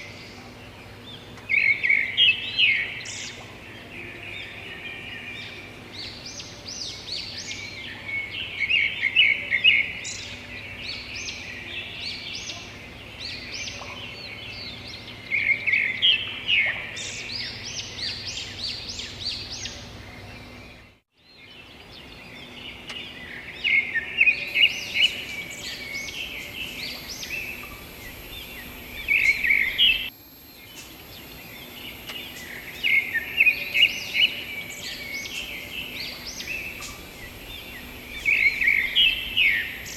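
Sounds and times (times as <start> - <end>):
forest ambience: 0.0 - 39.9
songbirds chirping: 0.0 - 39.9.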